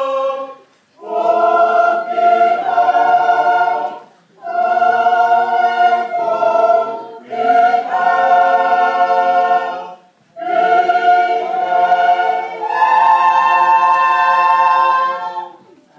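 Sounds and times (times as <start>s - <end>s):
choir singing unaccompanied: 0.0s - 15.8s.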